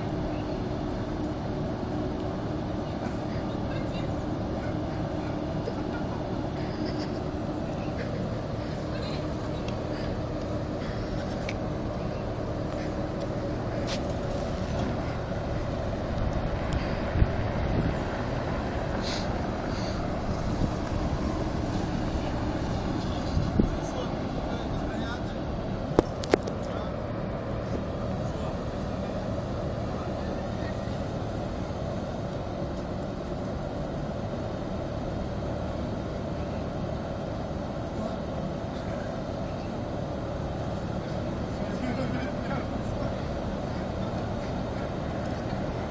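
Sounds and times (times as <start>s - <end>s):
faint steady hum: 0.0s - 45.9s
vehicle rumble: 0.0s - 45.9s.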